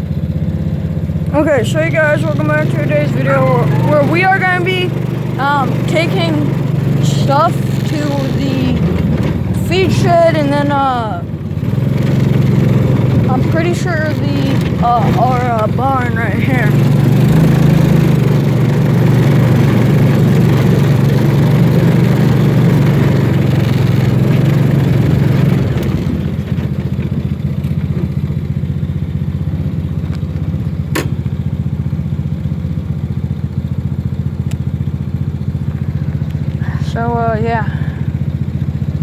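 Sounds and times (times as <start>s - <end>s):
small engine running: 0.0s - 39.0s.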